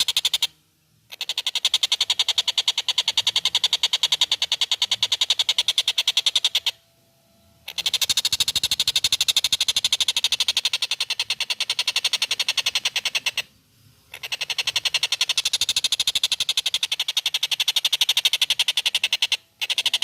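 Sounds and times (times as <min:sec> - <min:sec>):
kingfisher rattling call: 0:00.0 - 0:00.5, 0:01.1 - 0:06.8, 0:07.7 - 0:13.5, 0:14.1 - 0:20.0.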